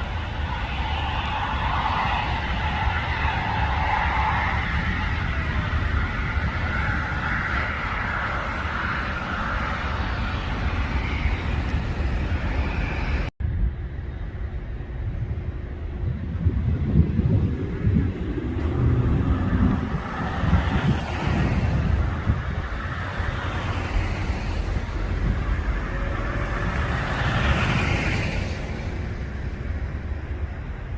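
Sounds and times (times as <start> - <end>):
jet airliner roaring overhead: 0.0 - 30.9
low rumble: 0.0 - 30.9.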